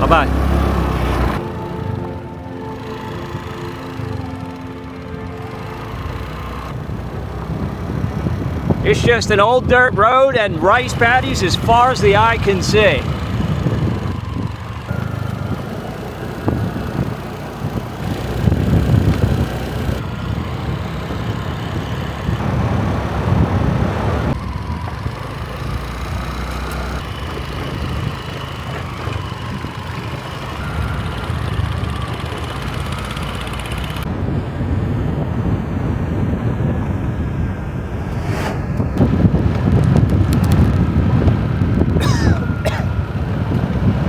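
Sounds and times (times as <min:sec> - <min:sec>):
motorbike engine rumble: 0:00.0 - 0:44.0
road and wind noise: 0:00.0 - 0:44.0.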